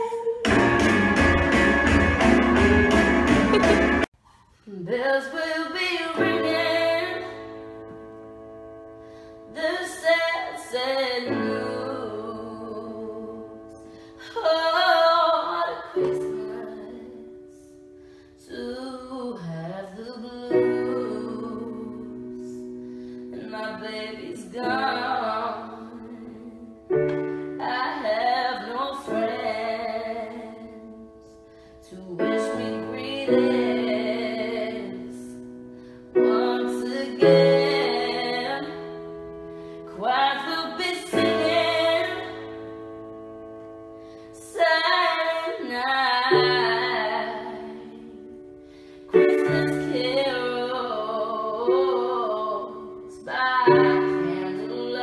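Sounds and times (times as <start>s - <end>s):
woman singing a slow ballad: 0.0s - 0.6s, 4.6s - 8.2s, 9.4s - 55.0s
digital piano chords: 0.4s - 4.1s, 6.0s - 19.3s, 20.0s - 55.0s.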